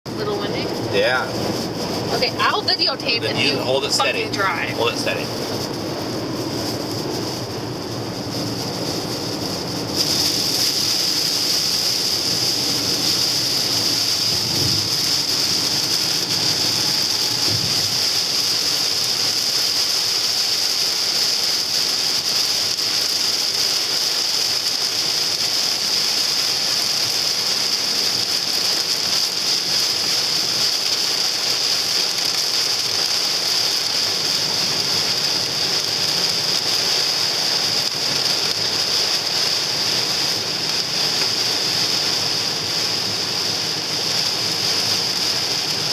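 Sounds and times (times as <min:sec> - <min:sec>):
hail clattering on car: 0:07.4 - 0:45.9.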